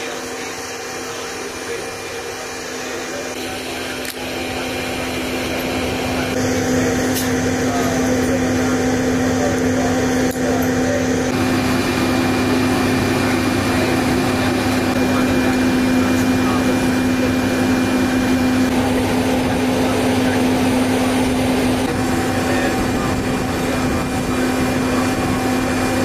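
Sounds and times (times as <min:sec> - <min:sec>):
aircraft turbine hum and whine: 0:00.0 - 0:26.0.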